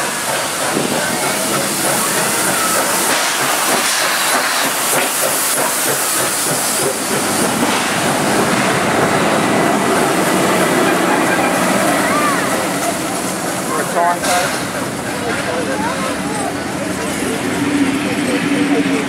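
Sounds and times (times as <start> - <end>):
steam locomotive hissing: 0.0 - 19.0
train wagons rolling on rails: 0.0 - 19.0.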